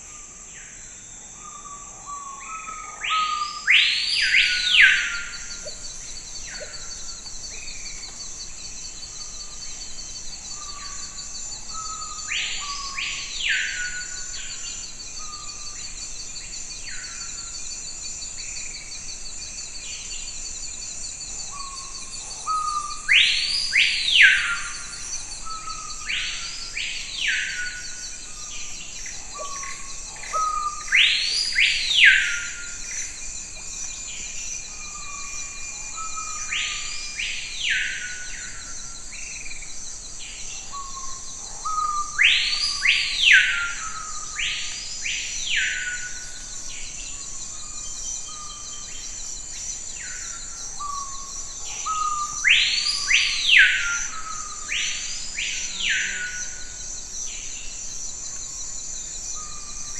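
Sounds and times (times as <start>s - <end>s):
high-pitched insect trill: 0.0s - 59.9s.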